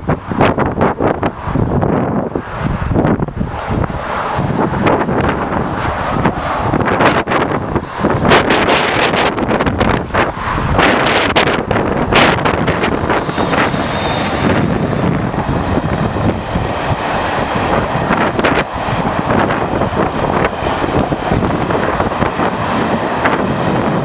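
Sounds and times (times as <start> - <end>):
train passing with rumble: 0.0 - 24.0
wind buffeting microphone: 0.0 - 24.0.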